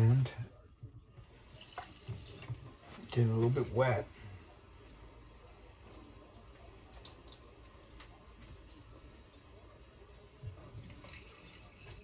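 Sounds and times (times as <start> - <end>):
water trickling into sink: 1.2 - 3.6, 4.7 - 12.0.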